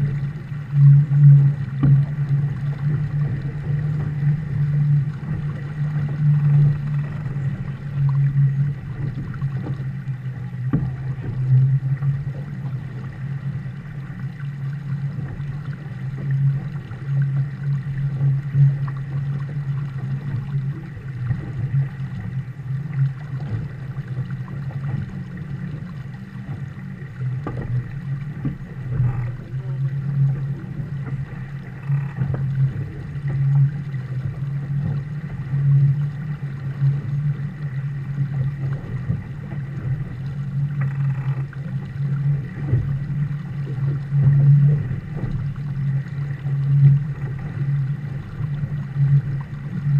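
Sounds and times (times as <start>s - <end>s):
water rushing along boat hull: 0.0s - 49.9s
waves knocking against hull: 0.0s - 49.9s.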